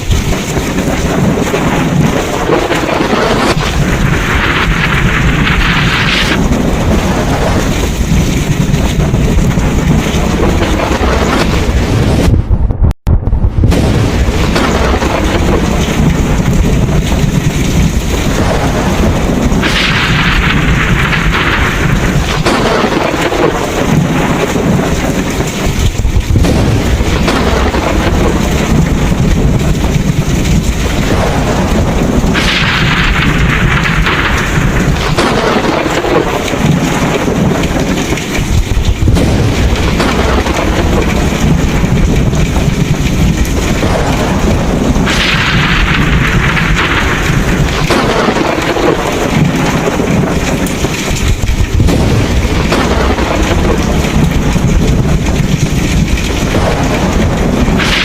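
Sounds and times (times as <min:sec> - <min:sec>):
heavy rain: 0:00.0 - 0:58.0
low rolling thunder: 0:00.0 - 0:58.0.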